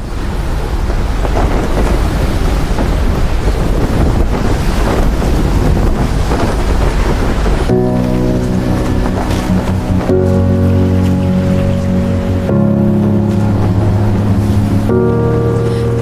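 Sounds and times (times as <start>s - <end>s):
rushing roar with deep rumble: 0.0s - 16.0s.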